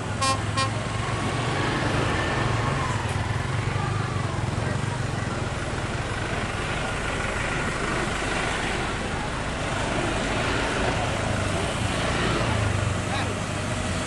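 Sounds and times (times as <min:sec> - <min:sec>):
heavy truck engine: 0:00.0 - 0:14.0
traffic engines droning: 0:00.0 - 0:14.0.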